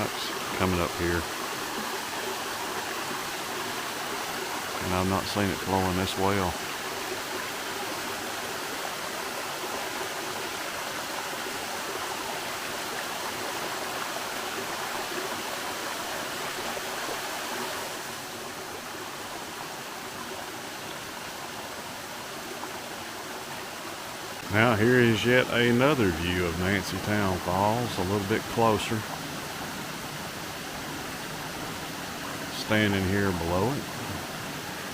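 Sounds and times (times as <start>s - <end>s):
waterfall roaring: 0.0s - 20.4s, 21.0s - 34.9s.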